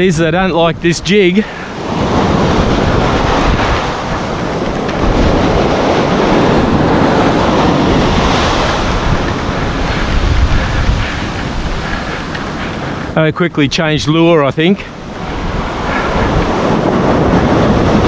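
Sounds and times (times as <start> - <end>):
surf washing on beach: 0.0 - 18.0
wind buffeting microphone: 0.0 - 18.0.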